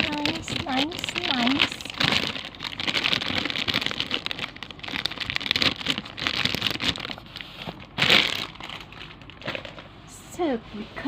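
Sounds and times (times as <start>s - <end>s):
packaging crinkling: 0.0s - 9.9s.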